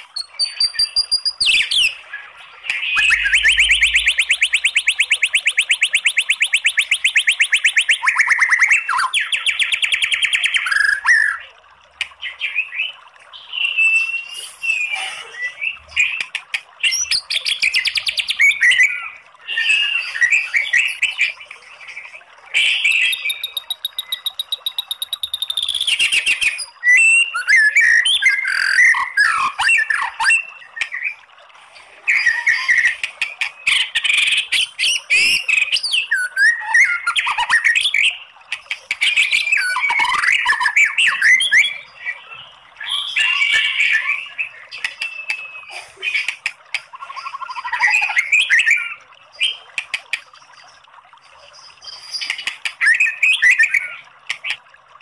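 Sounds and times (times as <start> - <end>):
bird singing varied phrases: 0.0 - 11.6, 12.2 - 31.3, 32.0 - 38.4, 39.0 - 49.7, 51.4 - 54.6.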